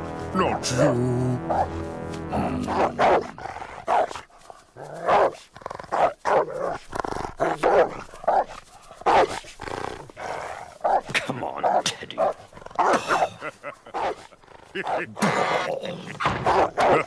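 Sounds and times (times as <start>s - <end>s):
cartoon dog barking and growling: 0.2s - 4.2s, 4.8s - 9.5s, 10.8s - 17.0s.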